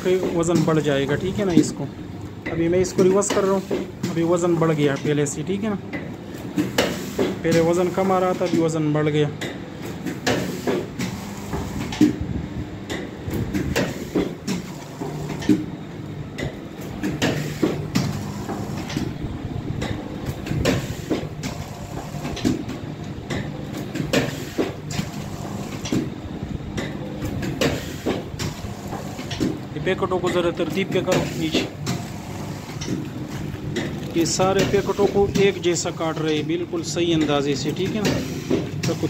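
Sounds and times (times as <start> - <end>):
packing machine motor hum: 0.0 - 39.0.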